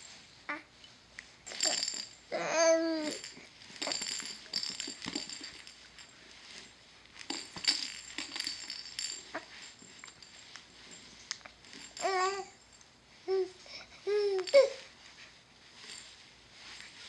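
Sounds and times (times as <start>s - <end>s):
faint rustling: 2.6s - 17.0s.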